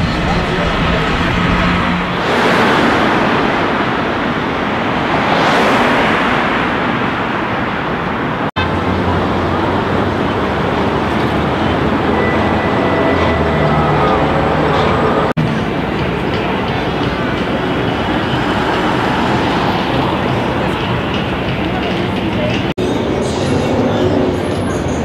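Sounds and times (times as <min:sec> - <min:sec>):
cars passing: 0:00.0 - 0:25.0
traffic rumble: 0:00.0 - 0:25.0.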